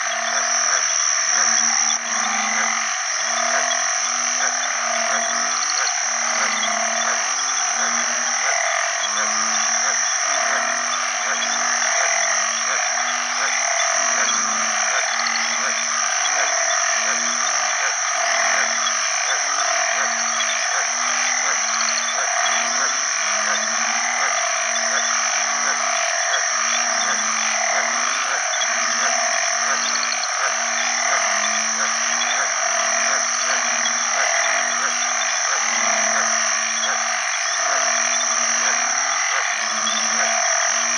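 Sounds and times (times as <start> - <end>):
chorus of frogs: 0.0 - 40.9
frogs giving low mating calls: 0.0 - 40.9.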